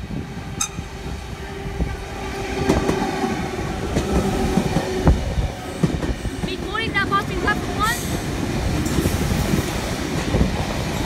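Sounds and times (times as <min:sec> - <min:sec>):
train whine: 0:00.0 - 0:11.0.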